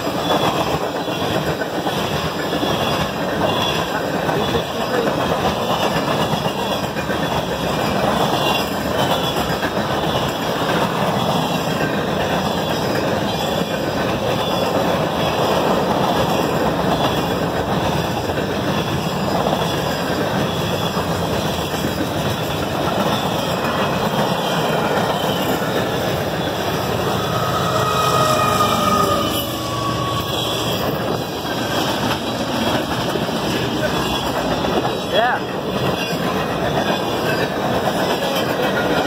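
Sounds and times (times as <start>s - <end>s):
train wheels running on rails: 0.0s - 39.0s.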